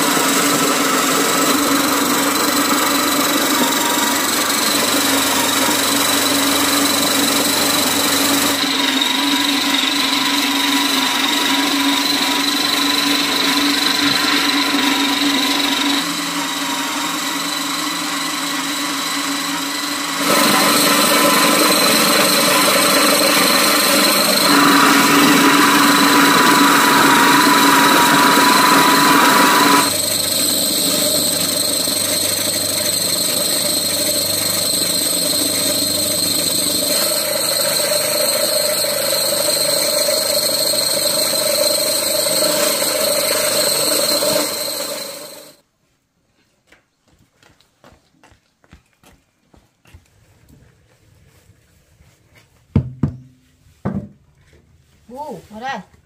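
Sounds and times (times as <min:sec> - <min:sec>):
electric grain mill whining: 0:00.0 - 0:45.6.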